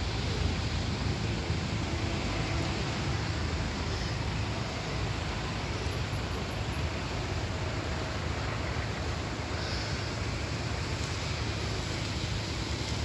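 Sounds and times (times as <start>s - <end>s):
constant hiss: 0.0s - 13.0s
road traffic rumble: 0.0s - 13.0s.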